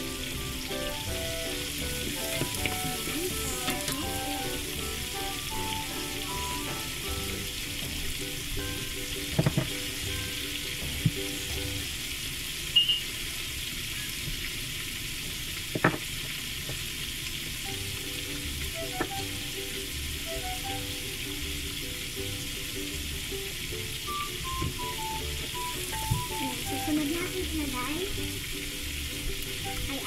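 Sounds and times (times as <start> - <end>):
faint simple melody: 0.0 - 12.0, 17.6 - 30.0
oil sizzling and bubbling: 0.0 - 30.0.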